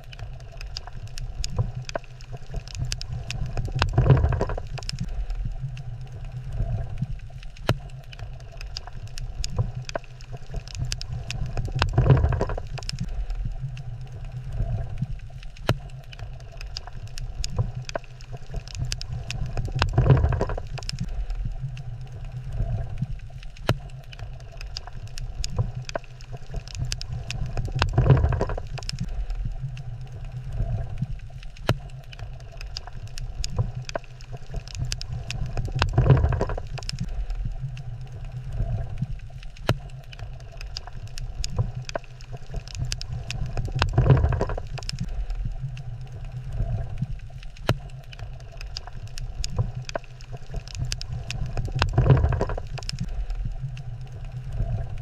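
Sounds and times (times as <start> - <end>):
crackle of sharp clicks: 0.0 - 55.0
low rumble of moving water: 0.0 - 55.0.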